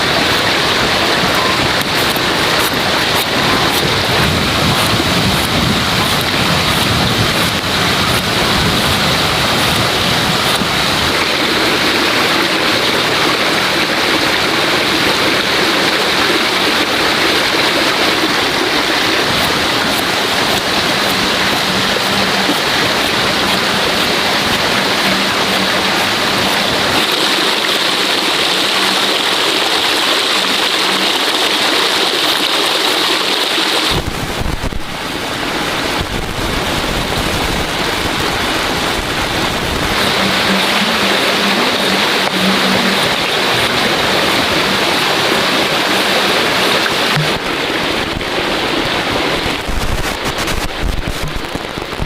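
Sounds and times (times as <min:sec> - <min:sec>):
loud rush of running water: 0:00.0 - 0:52.0.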